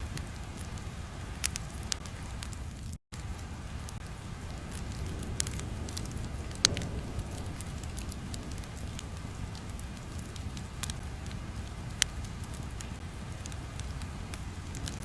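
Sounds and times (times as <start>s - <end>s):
fire crackling: 0.0s - 15.0s
sharp pops and snaps: 0.0s - 15.0s.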